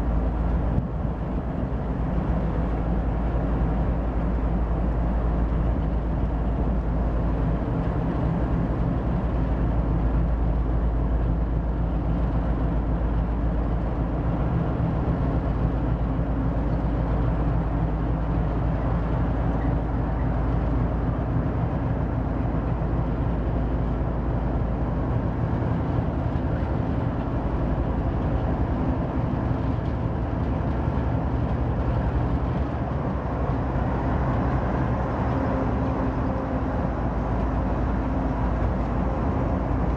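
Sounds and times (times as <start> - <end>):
diesel locomotive engines droning: 0.0 - 39.9.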